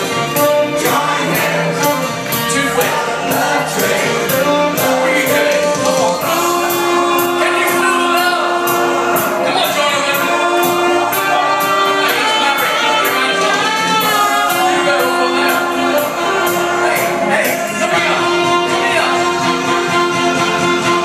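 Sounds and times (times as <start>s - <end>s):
live band playing dance music: 0.0s - 21.0s
person singing: 0.0s - 21.0s
saxophone: 0.0s - 21.0s
steady drum beat: 0.0s - 21.0s.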